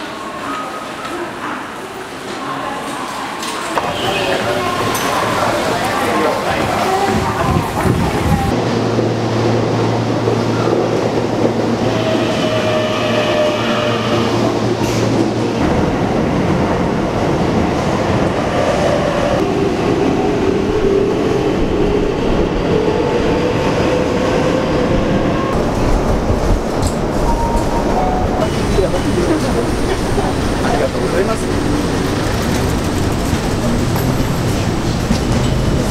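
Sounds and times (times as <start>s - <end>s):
train rumbling in tunnel: 0.0s - 35.9s.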